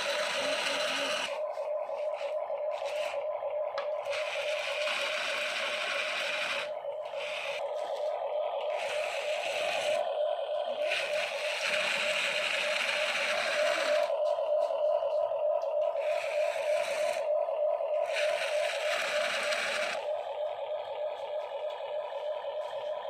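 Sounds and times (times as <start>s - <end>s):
small electric motor whining: 0.0s - 23.0s.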